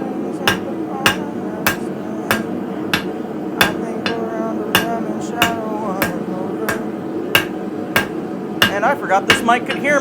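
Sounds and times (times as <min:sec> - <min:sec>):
steady background rush: 0:00.0 - 0:10.0
hammer striking hot steel: 0:00.4 - 0:10.0.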